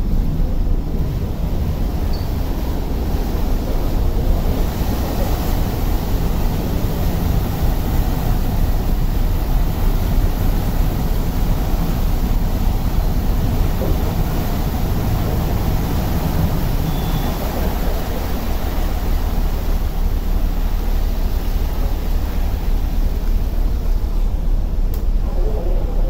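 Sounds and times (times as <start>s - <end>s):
ferry engine droning: 0.0s - 26.0s.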